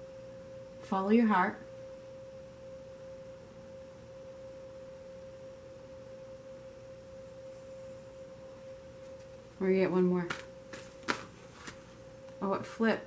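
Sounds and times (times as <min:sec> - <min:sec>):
steady pure tone: 0:00.0 - 0:13.0.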